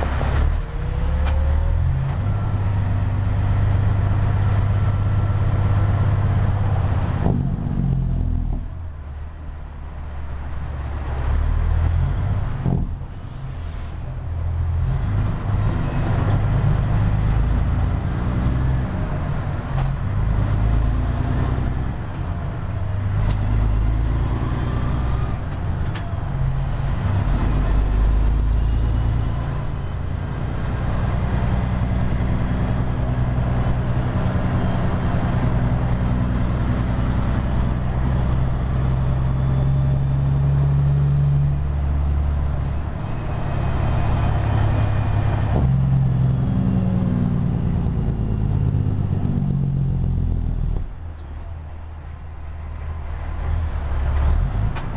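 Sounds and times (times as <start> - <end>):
diesel truck engine shifting gears: 0.0 - 54.9.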